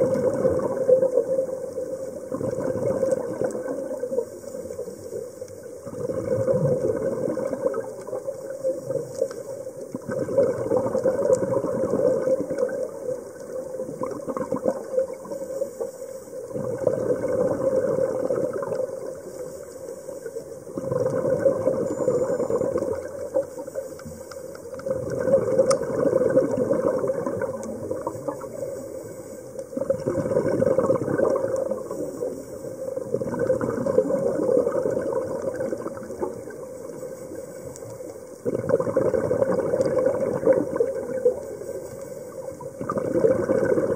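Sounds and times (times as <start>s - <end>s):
exhaled bubbles rushing: 0.0s - 9.3s, 9.9s - 15.6s, 16.4s - 19.4s, 20.6s - 23.6s, 24.8s - 28.7s, 29.7s - 37.0s, 38.4s - 41.6s, 42.3s - 43.9s.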